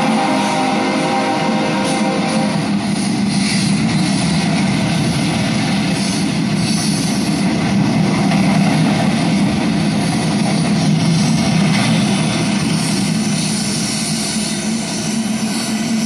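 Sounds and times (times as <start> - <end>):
freight train wheels on track: 0.0 - 16.0.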